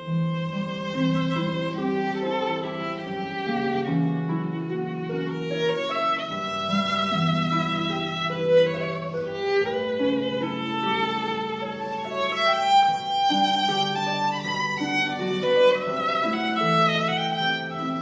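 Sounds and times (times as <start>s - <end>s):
instrumental music with held notes: 0.0s - 18.0s.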